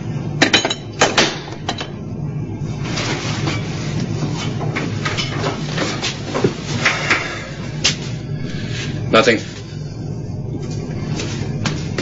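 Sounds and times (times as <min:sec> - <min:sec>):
low machinery drone: 0:00.0 - 0:12.0.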